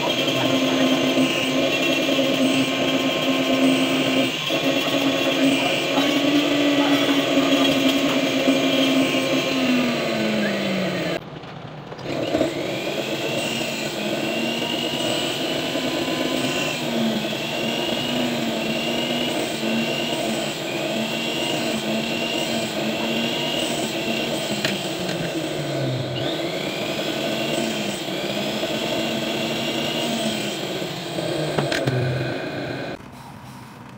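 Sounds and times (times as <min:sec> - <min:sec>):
cut-off disc cutting metal: 0:00.0 - 0:11.2, 0:12.0 - 0:33.0
rotary tool motor whine: 0:00.0 - 0:11.2, 0:12.0 - 0:33.0.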